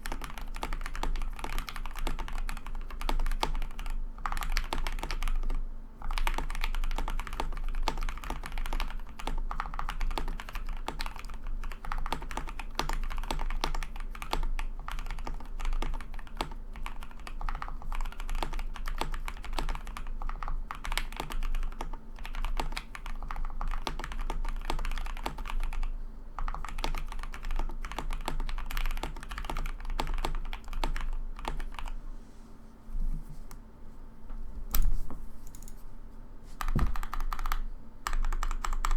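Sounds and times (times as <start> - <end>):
fast typing on mechanical keyboard: 0.0 - 32.0, 36.6 - 38.9.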